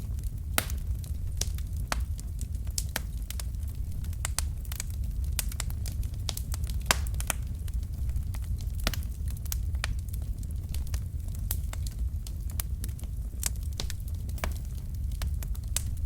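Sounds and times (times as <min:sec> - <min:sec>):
burning logs crackling: 0:00.0 - 0:16.0
flames rumbling: 0:00.0 - 0:16.0.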